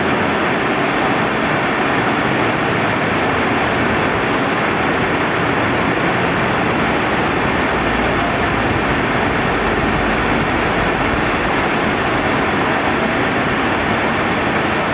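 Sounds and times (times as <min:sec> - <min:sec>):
flowing river: 0:00.0 - 0:14.9
steady rain falling: 0:00.0 - 0:14.9.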